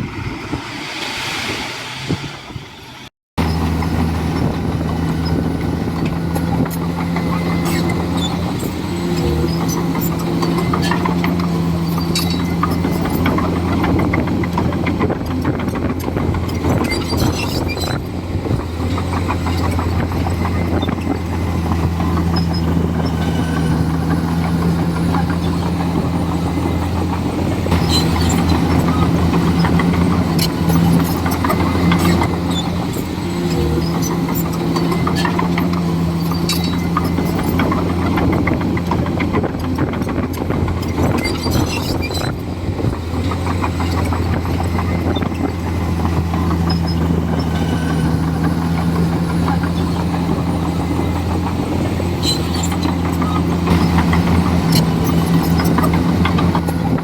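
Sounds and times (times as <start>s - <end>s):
bulldozer diesel engine running: 2.2s - 57.0s.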